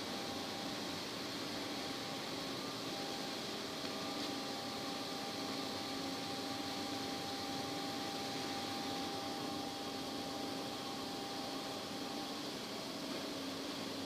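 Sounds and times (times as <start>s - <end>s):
exhaust fans humming: 0.0s - 14.0s.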